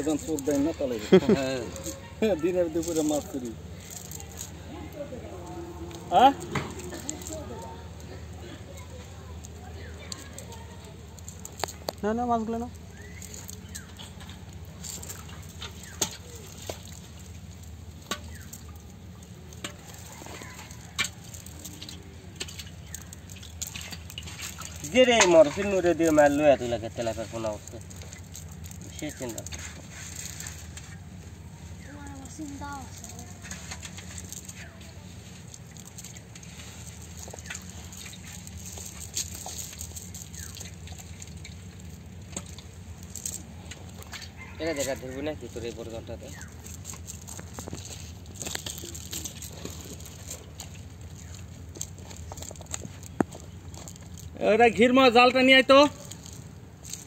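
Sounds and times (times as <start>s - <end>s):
chain sinkers clinking: 0.0s - 57.0s
fish flapping on dirt: 0.0s - 57.0s
net rustling through dry grass: 0.0s - 57.0s.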